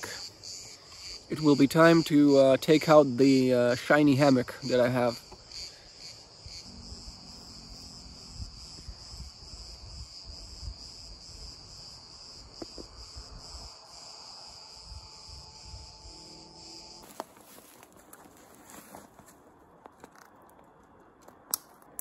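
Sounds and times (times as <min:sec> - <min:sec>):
cicadas singing: 0:00.0 - 0:17.8.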